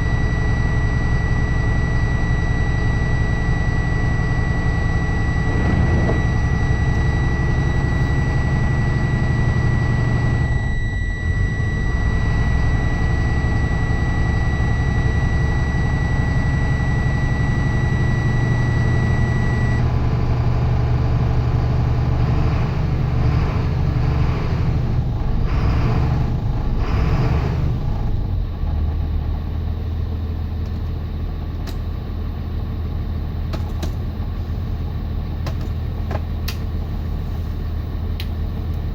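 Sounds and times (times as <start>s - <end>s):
diesel bus engine idling: 0.0s - 38.9s.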